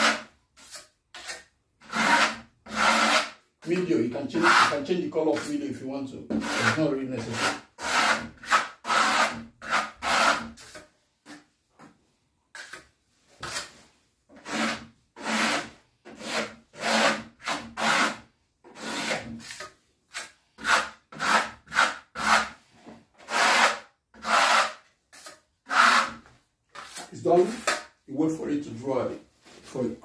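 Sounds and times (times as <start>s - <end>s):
trowel scraping plaster: 0.0s - 11.9s, 12.5s - 28.0s.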